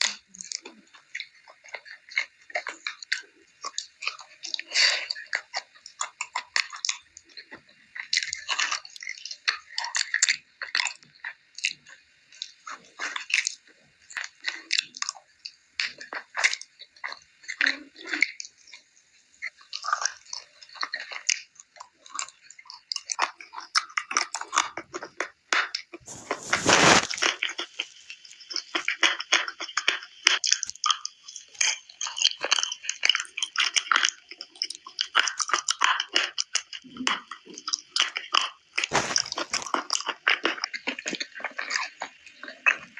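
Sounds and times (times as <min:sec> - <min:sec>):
person chewing crunchy clay: 0:00.0 - 0:18.5, 0:19.5 - 0:42.9.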